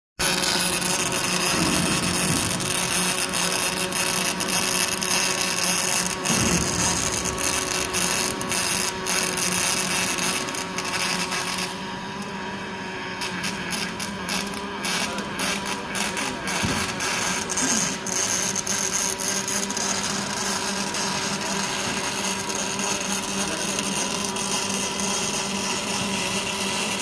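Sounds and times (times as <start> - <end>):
steady machine hum: 0.2 - 27.0
welding arc crackling and sizzling: 0.2 - 27.0.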